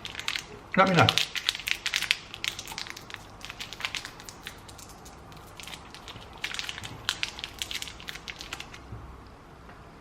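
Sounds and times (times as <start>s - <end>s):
plastic wrapper crinkling: 0.0s - 8.9s.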